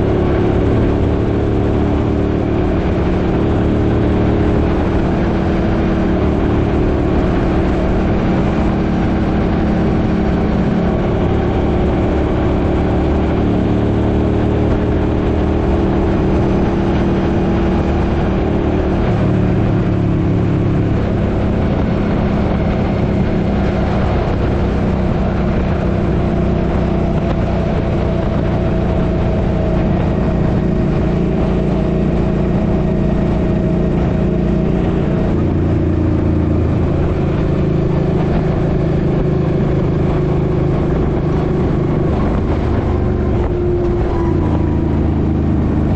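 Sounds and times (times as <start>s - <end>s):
motorcycle engine running: 0.0s - 45.9s
wind rush: 0.0s - 45.9s.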